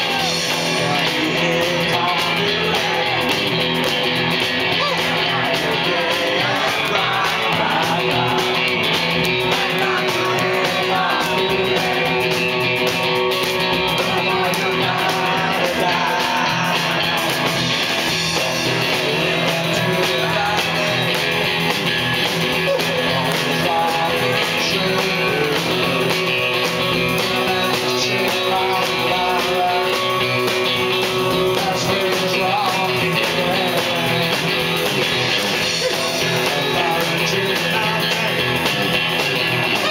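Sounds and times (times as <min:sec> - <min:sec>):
drum kit playing: 0:00.0 - 0:39.9
electric guitar: 0:00.0 - 0:39.9
man singing lead vocal: 0:00.0 - 0:39.9.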